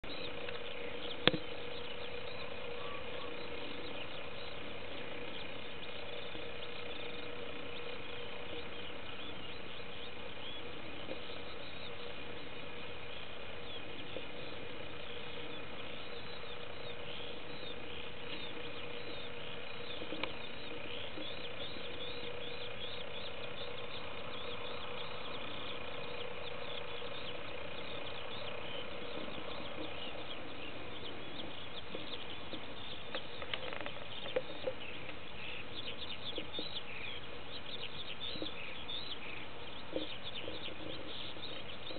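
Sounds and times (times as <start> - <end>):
faint constant hum: 0.0 - 41.9
small birds chirping: 0.0 - 41.9.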